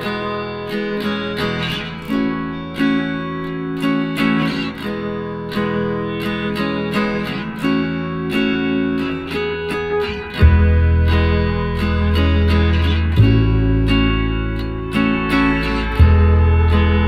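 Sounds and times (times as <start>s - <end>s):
strummed acoustic guitar chords: 0.0s - 17.0s.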